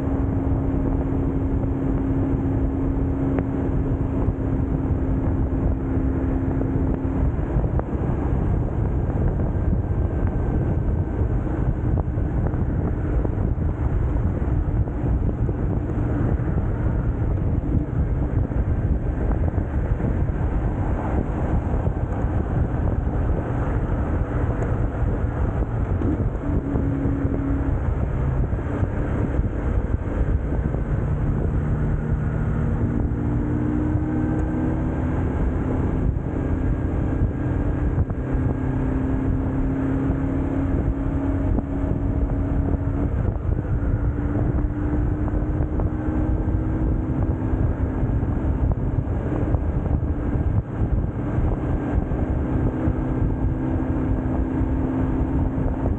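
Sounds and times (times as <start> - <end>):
motorcycle engine riding: 0.0 - 55.9
road rumble: 0.0 - 55.9
wind on microphone: 0.0 - 55.9.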